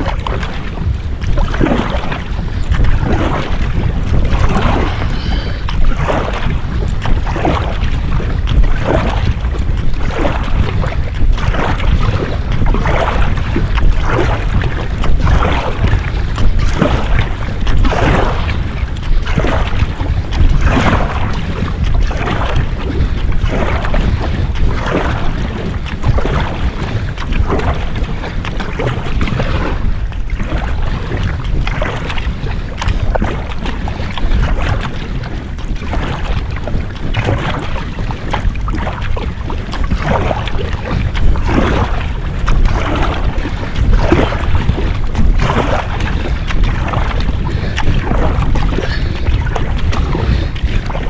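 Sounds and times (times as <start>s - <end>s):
paddle splashing through water: 0.0s - 51.0s
wind rumble on microphone: 0.0s - 51.0s.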